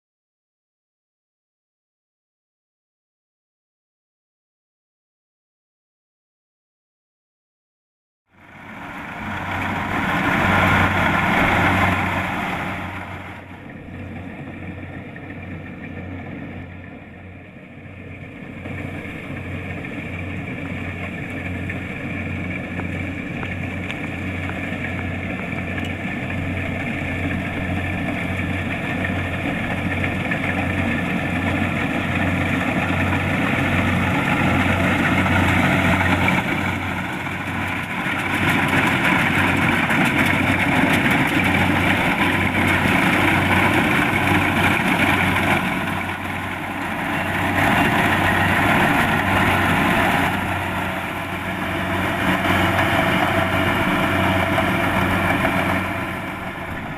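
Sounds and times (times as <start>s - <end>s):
combine harvester engine running: 8.3s - 56.9s.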